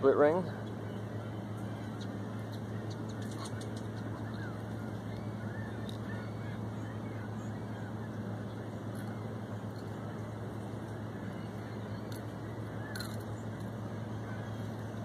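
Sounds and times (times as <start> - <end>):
faint bird calls: 0.0 - 15.0
steady low hum: 0.0 - 15.0.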